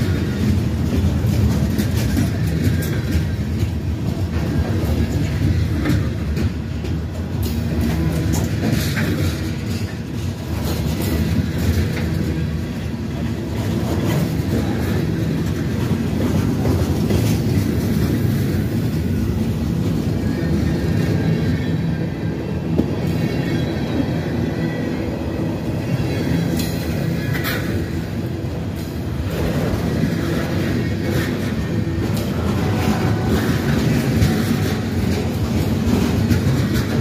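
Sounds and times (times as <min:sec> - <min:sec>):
train rumbling past: 0:00.0 - 0:37.0
wheels clicking on rails: 0:00.0 - 0:37.0.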